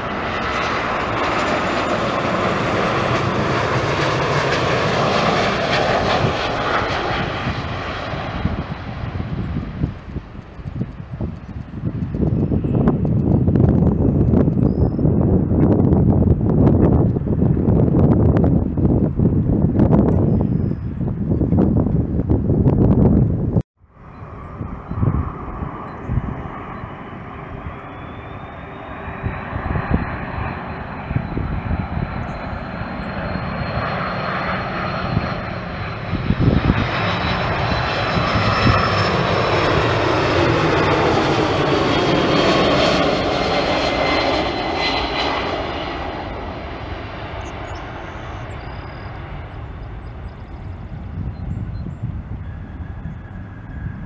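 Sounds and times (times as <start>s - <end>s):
jet engines whining overhead: 0.0s - 54.0s.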